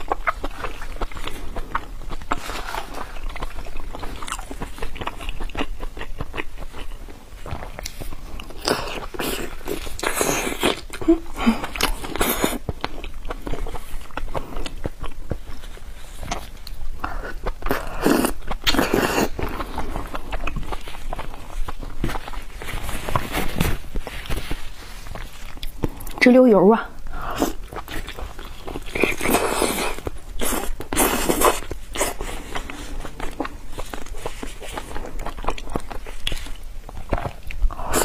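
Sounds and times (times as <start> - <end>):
wet chewing and biting: 0.0 - 26.2, 27.0 - 38.0.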